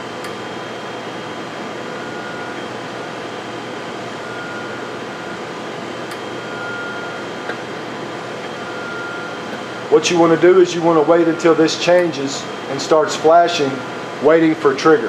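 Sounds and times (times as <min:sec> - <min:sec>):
machine hum and hiss: 0:00.0 - 0:15.0.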